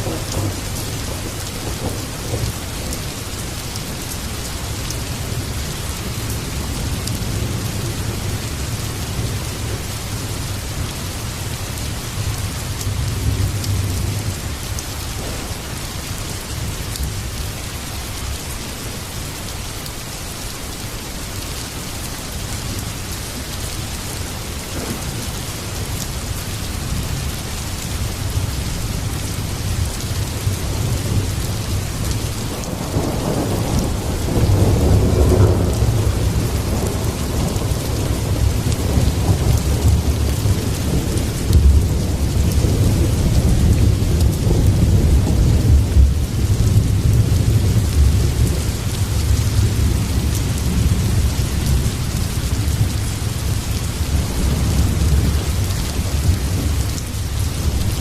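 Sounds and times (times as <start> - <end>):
thunder rumbling: 0.0 - 17.4, 24.4 - 58.0
heavy rain falling: 0.0 - 58.0.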